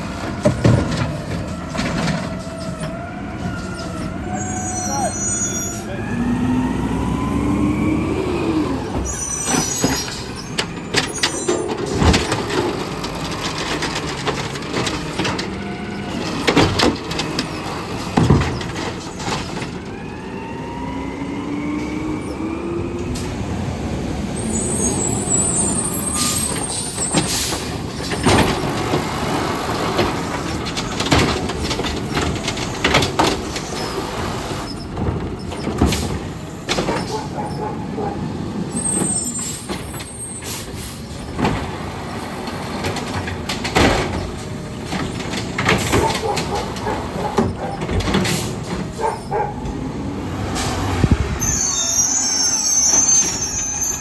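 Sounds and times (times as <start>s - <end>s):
cart banging and clattering: 0.0s - 5.8s, 8.7s - 20.3s, 23.2s - 54.0s
garbage truck engine revving: 0.0s - 54.0s.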